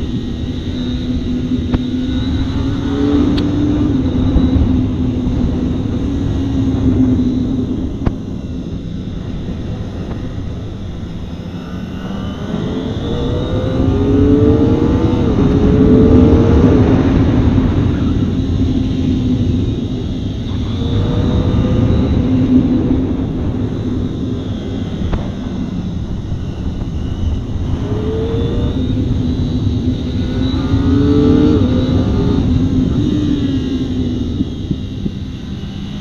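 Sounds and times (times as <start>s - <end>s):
heavy wind noise: 0.0s - 36.0s
motorcycle engine revving: 0.0s - 36.0s.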